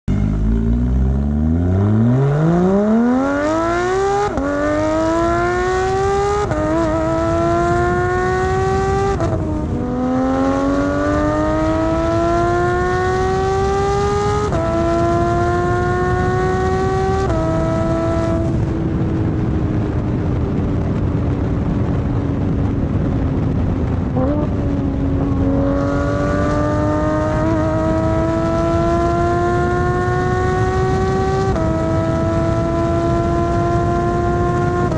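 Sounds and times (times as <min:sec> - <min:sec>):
sports car accelerating hard: 0:00.1 - 0:34.9.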